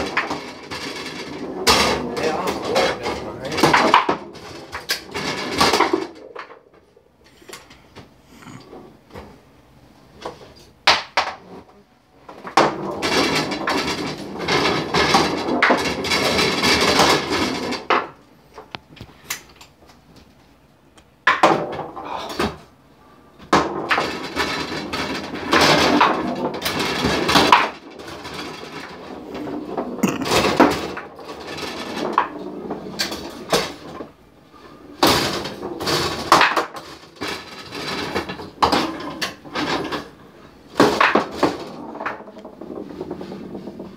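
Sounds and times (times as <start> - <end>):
plastic players knocking ball: 0.0 - 6.9, 10.2 - 11.7, 12.3 - 19.5, 23.4 - 34.1, 35.0 - 43.9
ball clattering off wooden sides: 0.0 - 9.4, 10.2 - 19.8, 21.2 - 22.7, 23.4 - 43.9
foosball rods sliding and spinning: 0.0 - 19.6, 21.2 - 22.8, 23.4 - 43.9.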